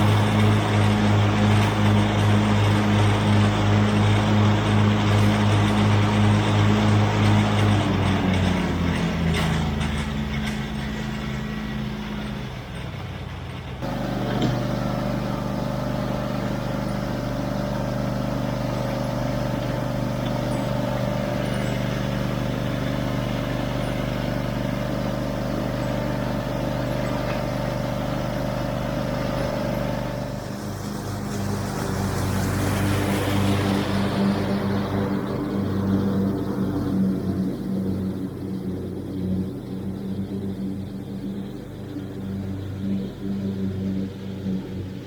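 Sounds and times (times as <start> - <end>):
ride-on mower engine running: 0.0 - 45.0.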